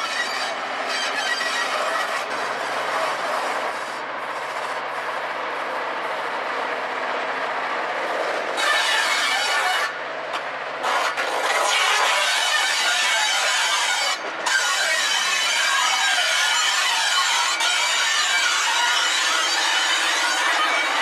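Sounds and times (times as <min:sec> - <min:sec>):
diesel locomotive engines idling: 0:00.0 - 0:21.0.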